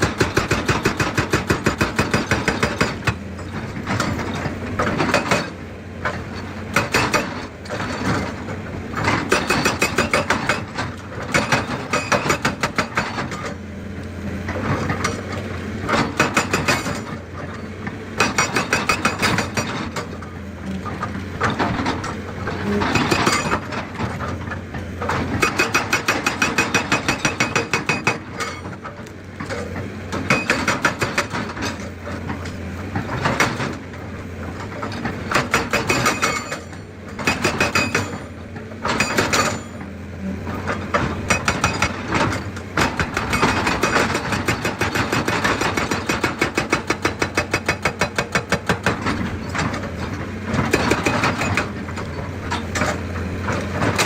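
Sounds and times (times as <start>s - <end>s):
hydraulic breaker hammering rock: 0.0s - 13.6s, 14.5s - 54.0s
excavator diesel engine running: 0.0s - 54.0s.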